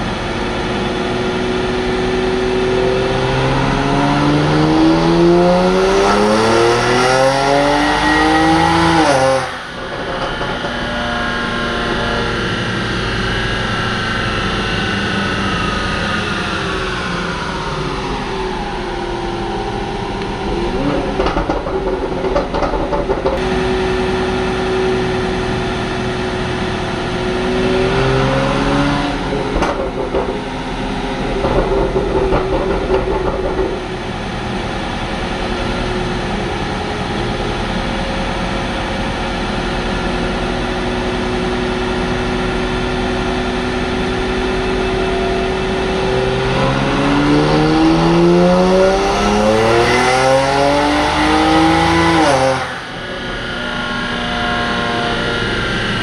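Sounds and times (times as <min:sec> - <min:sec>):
car engine running on dyno: 0:00.0 - 0:56.0.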